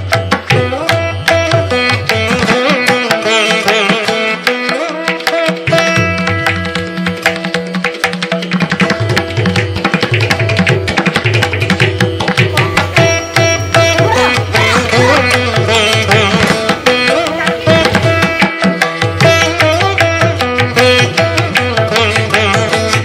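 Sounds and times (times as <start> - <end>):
fast tabla rhythm: 0.0 - 23.0
plucked strings: 0.0 - 23.0.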